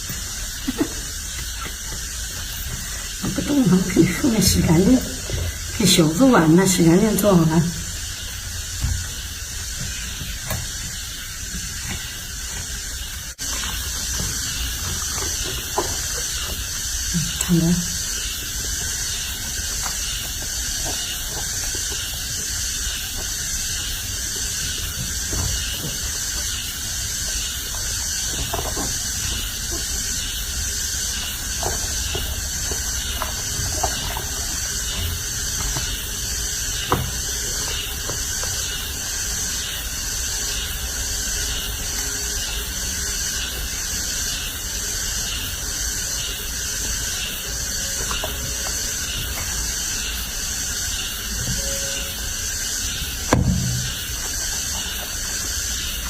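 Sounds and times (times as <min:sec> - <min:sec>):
steady pulsing hiss: 0:00.0 - 0:56.0.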